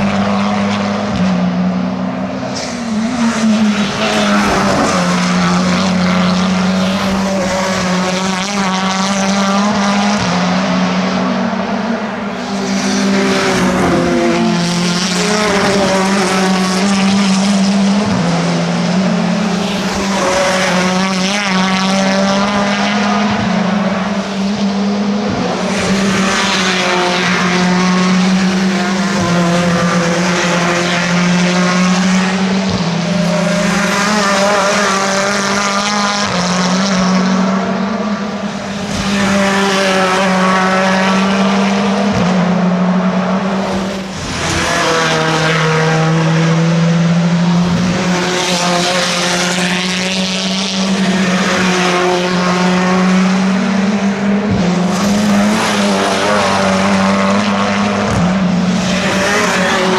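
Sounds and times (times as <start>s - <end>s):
racing cars passing at speed: 0.0s - 59.9s.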